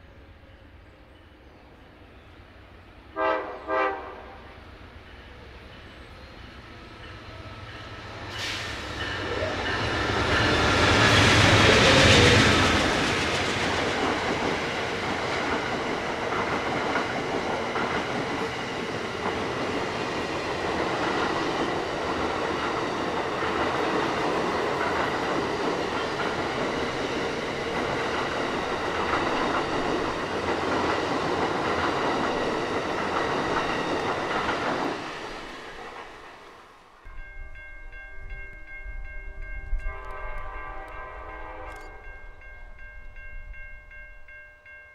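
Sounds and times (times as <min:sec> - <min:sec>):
train wheels rushing on rails: 0:03.2 - 0:43.6.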